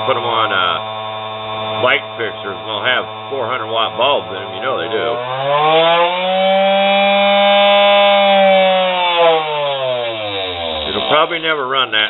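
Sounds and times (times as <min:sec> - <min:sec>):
small grinder motor whining: 0:00.0 - 0:12.0.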